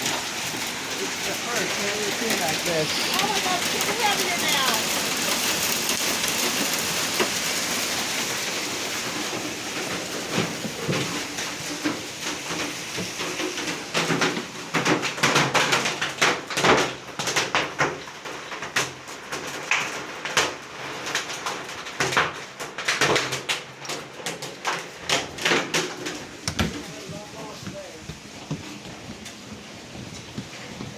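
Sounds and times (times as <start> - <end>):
rain hissing: 0.0 - 22.9, 23.6 - 30.9
hailstones clattering: 0.0 - 30.9.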